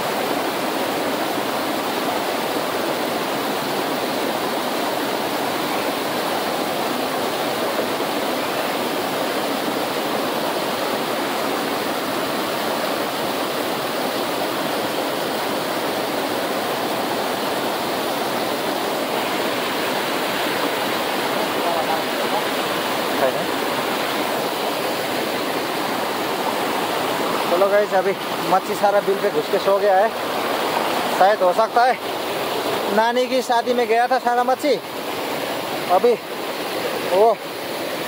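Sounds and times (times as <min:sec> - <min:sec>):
river rushing: 0:00.0 - 0:38.0.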